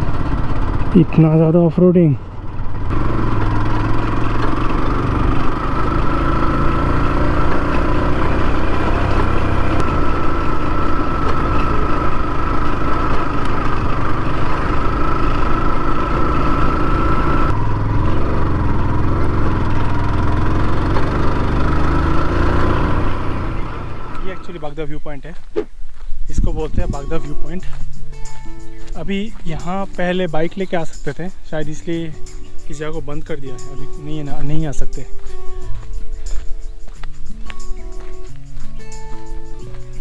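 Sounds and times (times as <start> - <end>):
motorcycle engine running: 0.0 - 24.8, 26.4 - 40.0.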